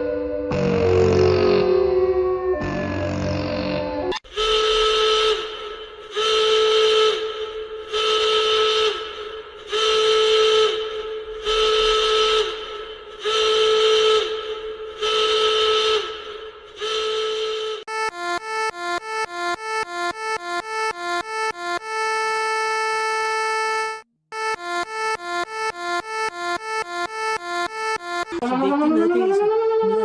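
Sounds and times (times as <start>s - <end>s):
breathy whistle-like alarm horn: 4.1s - 28.4s.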